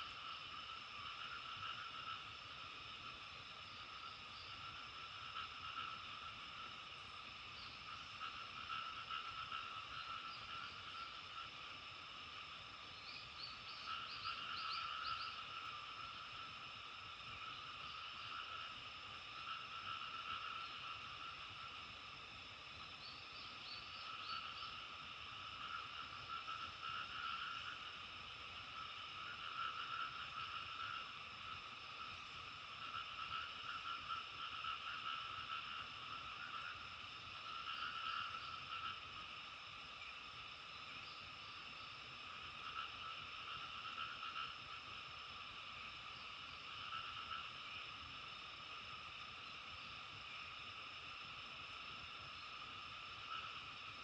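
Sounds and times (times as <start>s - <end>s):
frogs calling in chorus: 0.0s - 54.0s.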